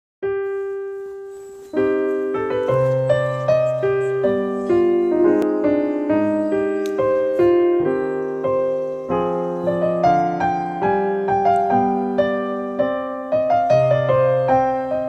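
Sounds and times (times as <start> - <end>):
solo piano music: 0.2 - 15.0.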